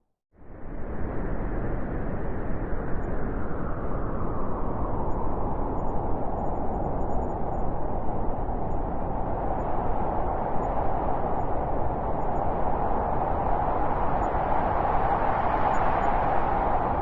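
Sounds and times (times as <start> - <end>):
howling wind: 0.4 - 17.0.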